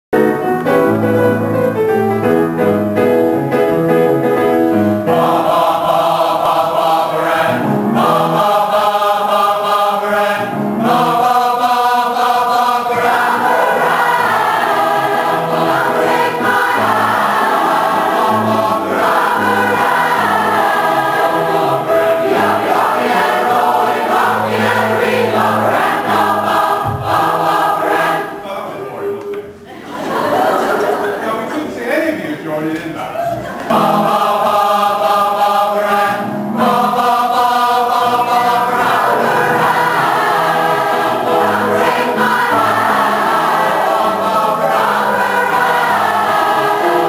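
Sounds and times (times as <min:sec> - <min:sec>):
choir singing: 0:04.3 - 0:28.6, 0:29.7 - 0:31.2, 0:33.4 - 0:47.0.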